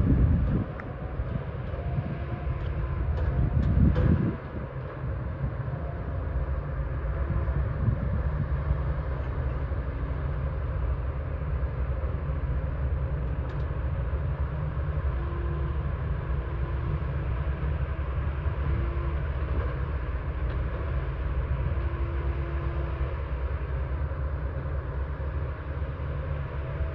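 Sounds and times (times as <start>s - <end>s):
diesel machinery rumbling: 0.0s - 26.9s.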